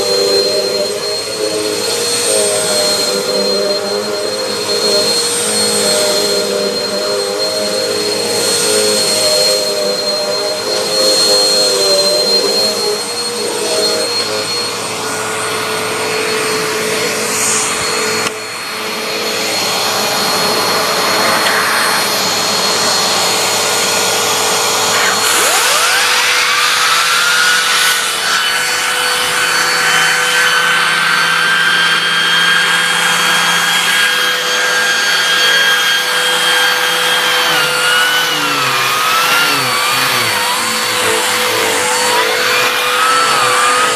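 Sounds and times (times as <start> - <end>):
vacuum cleaner motor whining: 0.0 - 43.9.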